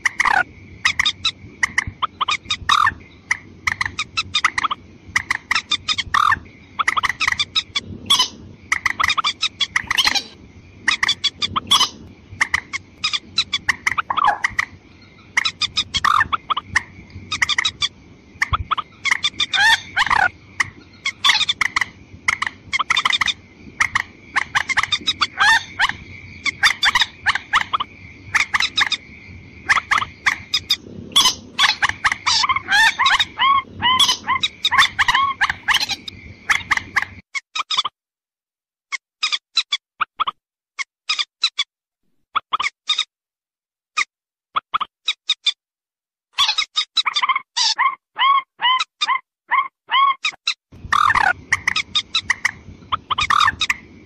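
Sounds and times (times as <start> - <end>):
bird clucking calls: 0.0 - 37.9, 46.4 - 54.0.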